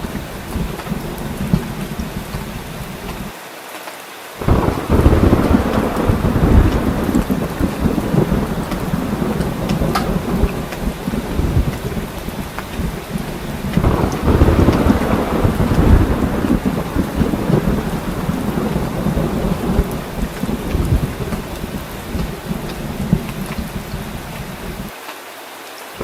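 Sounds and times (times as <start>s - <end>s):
thunder rumbling: 0.0s - 3.3s, 4.4s - 24.9s
heavy rain falling: 0.0s - 26.0s.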